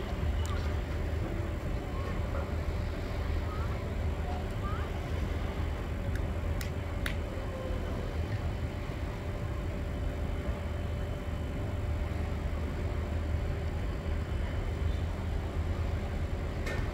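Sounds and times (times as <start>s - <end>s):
low rumble of distant ambience: 0.0s - 16.9s.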